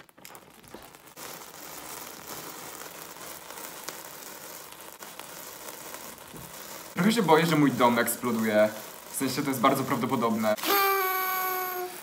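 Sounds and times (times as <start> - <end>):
sparkler fizzing and crackling: 0.0 - 12.0.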